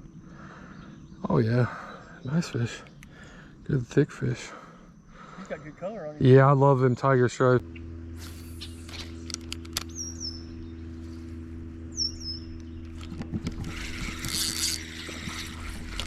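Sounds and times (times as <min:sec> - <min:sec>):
small bird chirping: 0:00.0 - 0:16.0
steady low hum: 0:00.0 - 0:16.0.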